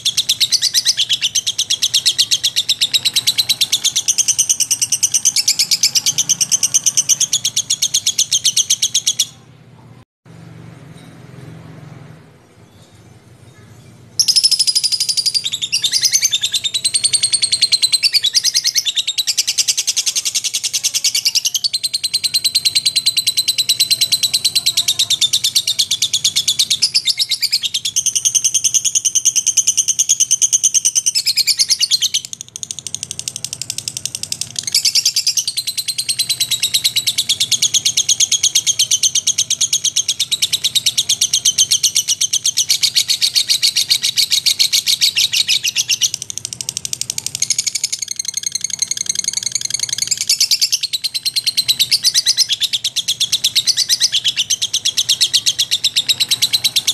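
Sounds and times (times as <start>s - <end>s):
bird chattering trill: 0.0s - 9.5s, 13.5s - 56.9s.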